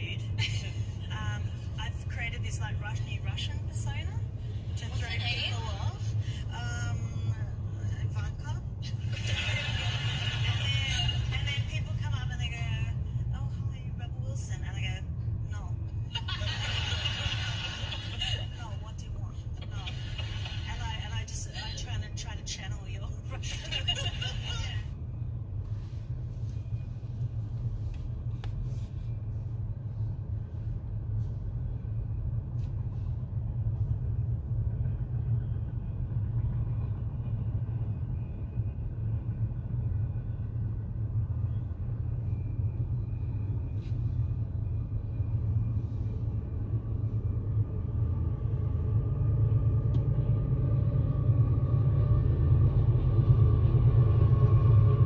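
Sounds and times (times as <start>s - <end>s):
highway traffic rumble: 0.0s - 55.0s.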